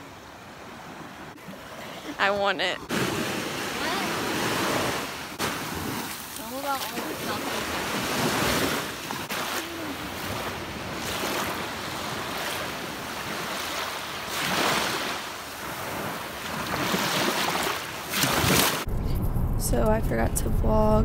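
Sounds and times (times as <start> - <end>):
waves breaking on sandy beach: 0.0 - 18.9.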